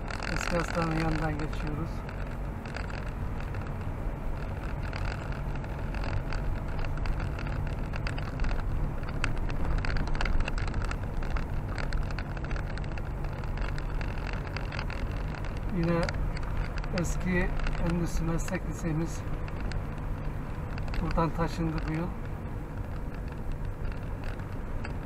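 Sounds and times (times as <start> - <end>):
car driving on slushy road: 0.0 - 25.0
small clicks and ticks: 0.0 - 25.0.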